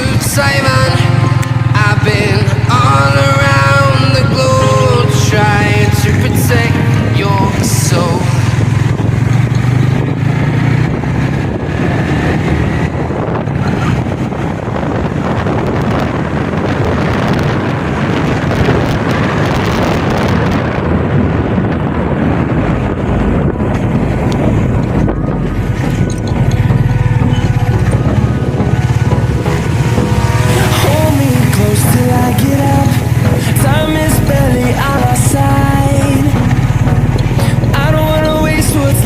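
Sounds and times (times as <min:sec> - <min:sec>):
vehicle running along road: 0:00.0 - 0:39.0
wind buffeting microphone: 0:00.0 - 0:39.0.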